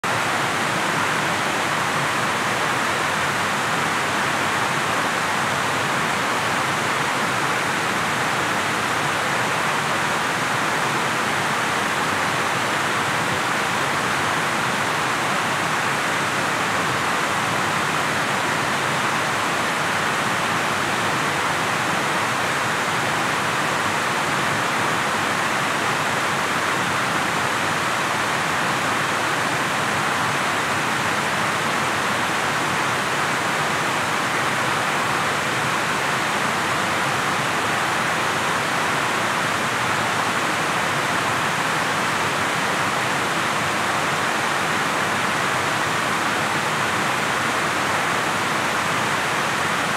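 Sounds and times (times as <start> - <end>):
river water rushing: 0.1 - 49.9.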